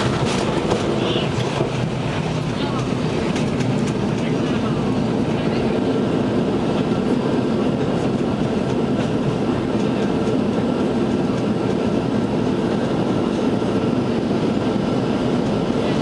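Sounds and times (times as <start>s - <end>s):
airplane cabin engine roar: 0.0s - 16.0s.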